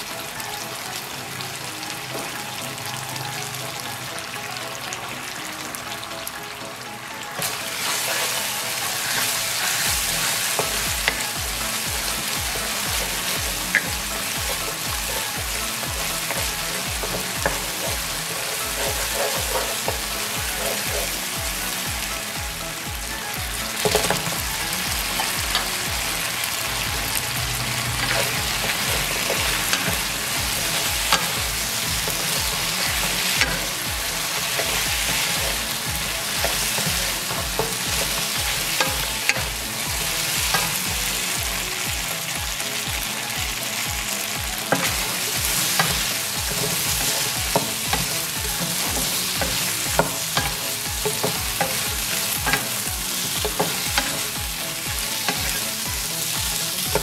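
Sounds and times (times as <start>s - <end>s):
chicken wings sizzling in pan: 0.0s - 57.0s
spatula stirring food: 7.3s - 42.0s, 44.0s - 57.0s.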